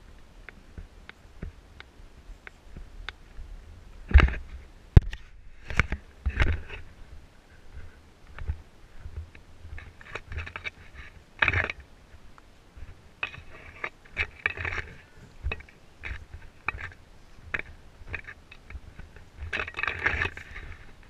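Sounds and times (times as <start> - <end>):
wind thumps on microphone: 0.5 - 21.0.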